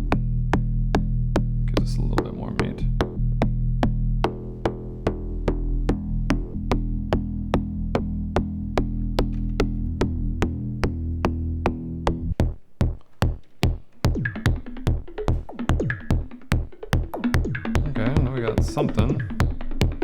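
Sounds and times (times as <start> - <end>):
kick drum hits: 0.0 - 20.0
synthesizer clicks ticking: 0.0 - 20.0.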